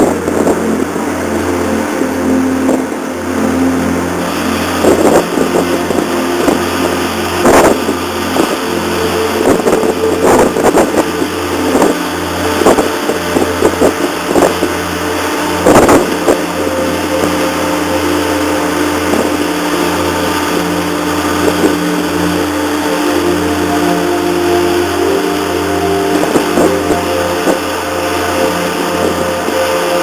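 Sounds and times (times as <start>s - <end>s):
diesel engines droning: 0.0s - 30.0s
rushes of noise: 0.0s - 30.0s.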